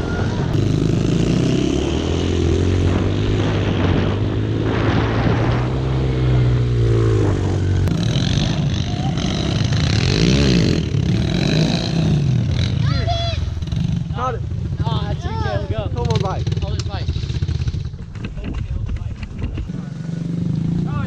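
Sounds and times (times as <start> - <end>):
pit bike engines running: 0.0 - 21.0.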